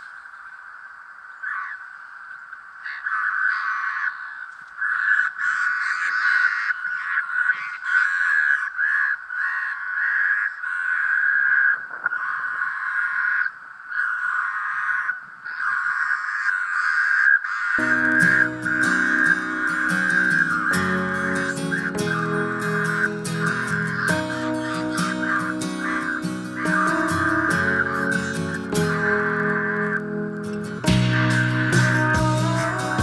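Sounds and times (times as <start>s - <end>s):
harsh animal calls: 2.8s - 33.0s.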